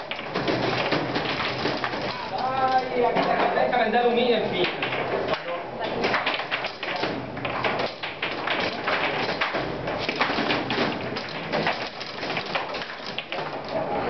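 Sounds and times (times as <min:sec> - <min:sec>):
foosball players striking ball: 0:00.0 - 0:13.9.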